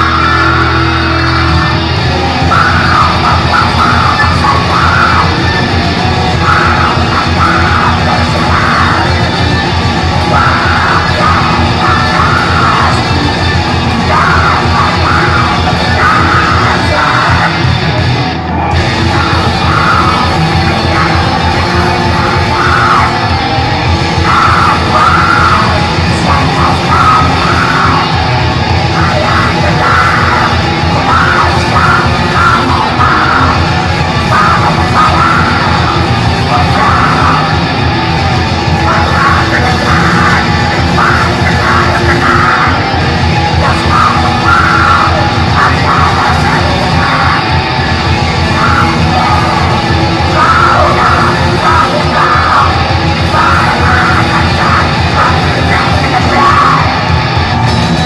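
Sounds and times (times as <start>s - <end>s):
distorted electric guitars: 0.0s - 58.0s
drums: 0.0s - 58.0s
harsh yelled vocals: 0.0s - 58.0s.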